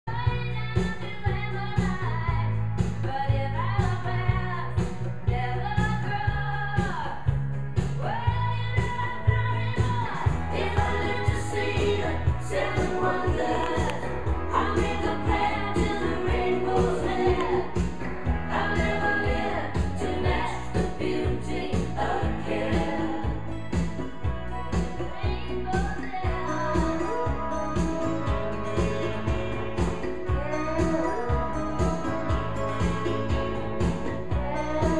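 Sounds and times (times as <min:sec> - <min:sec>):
song with vocals and bass beat: 0:00.1 - 0:34.9.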